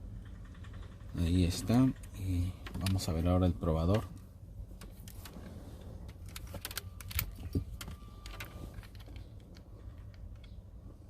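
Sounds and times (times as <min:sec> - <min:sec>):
steady low hum: 0:00.0 - 0:11.0
clicks and rattles of wiring handled: 0:00.1 - 0:10.8.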